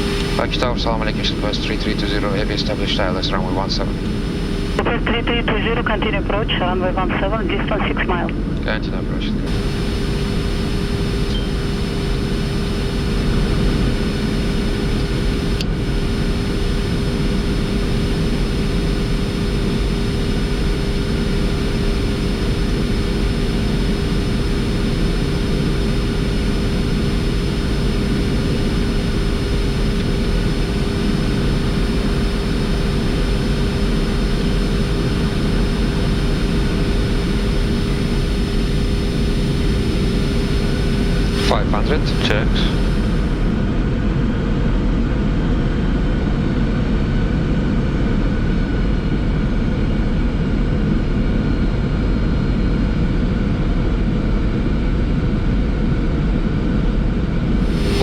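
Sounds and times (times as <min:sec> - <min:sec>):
constant hum: 0:00.0 - 0:48.0, 0:56.8 - 0:58.0.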